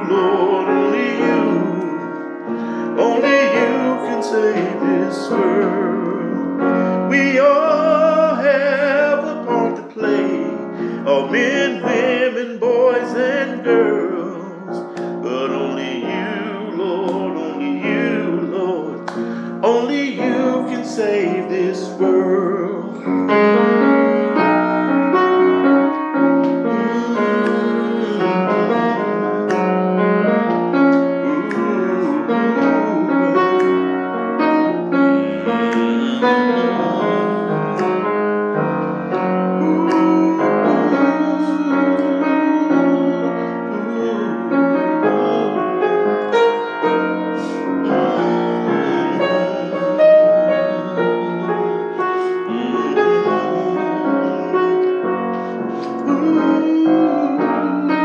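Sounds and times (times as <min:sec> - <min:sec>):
slow piano chords and melody: 0:00.0 - 0:58.0.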